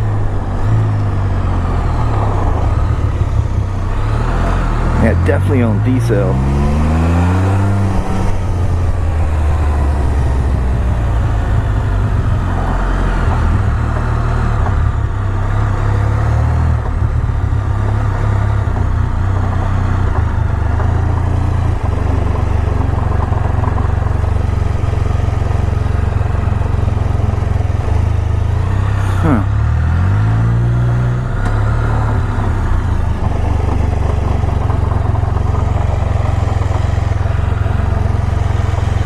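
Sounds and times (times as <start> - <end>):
motorcycle engine running: 0.0 - 39.0
odd noise on deceleration: 0.0 - 39.0
road and wind noise: 0.0 - 39.0.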